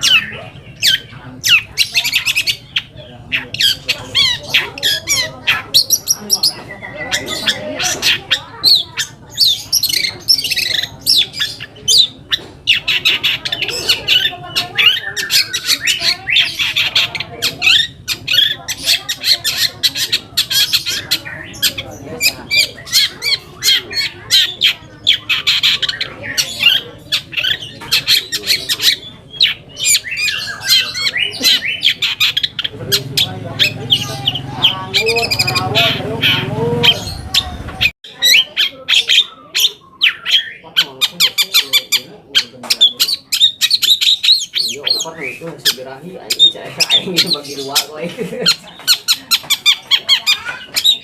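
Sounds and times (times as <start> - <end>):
shrike chattering song: 0.0 - 51.0.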